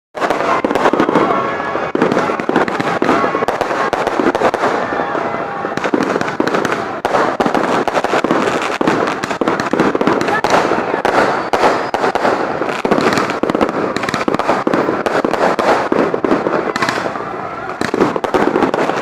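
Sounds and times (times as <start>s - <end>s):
fireworks cracking and popping: 0.2s - 19.0s.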